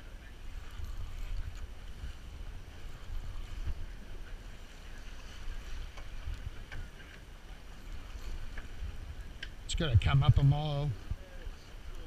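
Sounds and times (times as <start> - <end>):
choppy sea against boat hull: 0.0 - 12.0
wind rumbling on microphone: 0.0 - 12.0.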